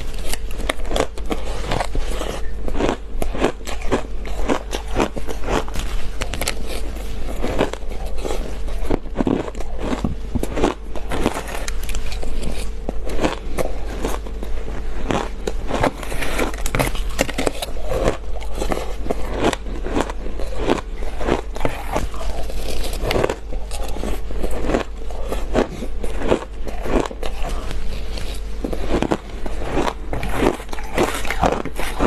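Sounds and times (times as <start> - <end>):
ice crunching between teeth: 0.0 - 32.0.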